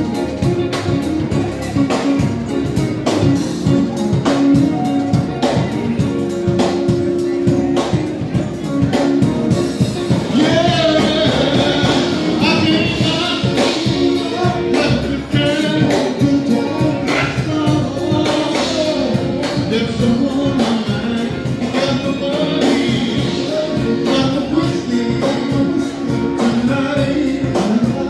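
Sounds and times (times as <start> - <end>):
live band playing: 0.0 - 28.0
person singing: 0.0 - 28.0.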